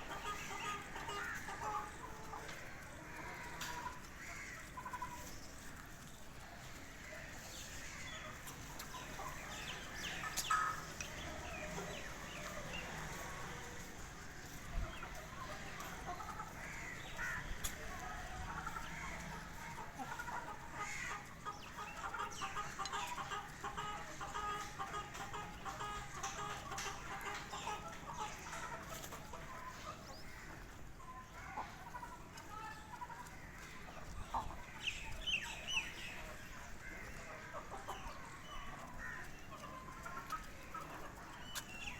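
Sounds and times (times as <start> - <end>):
chicks peeping: 0.0 - 41.9
hen clucking: 0.0 - 41.9.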